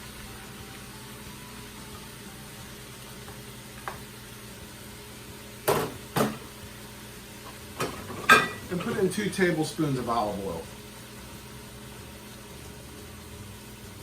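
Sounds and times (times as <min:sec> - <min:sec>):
food sizzling in a pot: 0:00.0 - 0:14.0
low appliance hum: 0:00.0 - 0:14.0.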